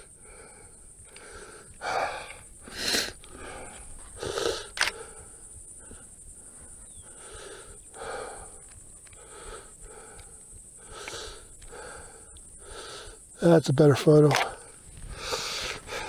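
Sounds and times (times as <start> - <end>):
man breathing hard: 0.0 - 13.4, 14.5 - 16.0.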